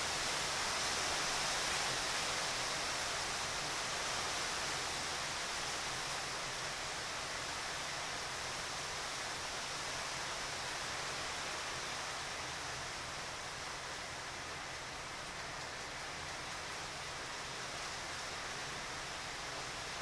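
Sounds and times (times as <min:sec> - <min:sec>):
steady outdoor background hiss: 0:00.0 - 0:20.0.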